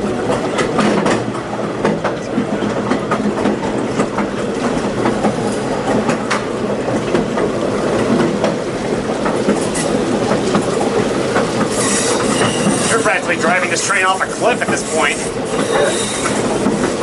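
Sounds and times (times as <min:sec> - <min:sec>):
train rolling rumble: 0:00.0 - 0:17.0
wheel clicks over rail joints: 0:00.0 - 0:17.0.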